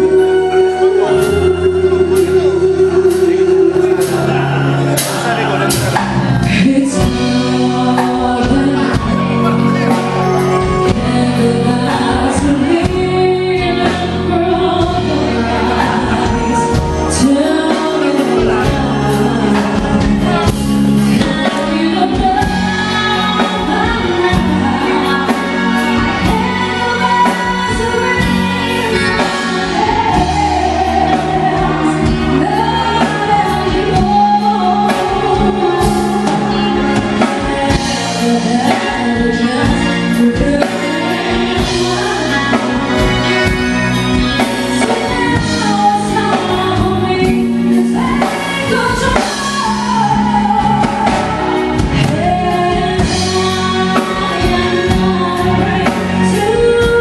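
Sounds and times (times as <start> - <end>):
woman singing: 0.0 - 5.2, 6.4 - 57.0
live band playing: 0.0 - 57.0.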